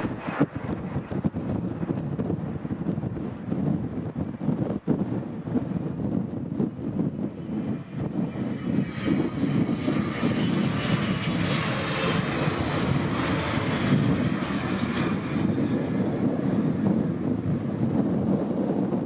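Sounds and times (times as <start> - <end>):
jet engines passing: 0.0 - 19.0
wind buffeting microphone: 0.0 - 19.0.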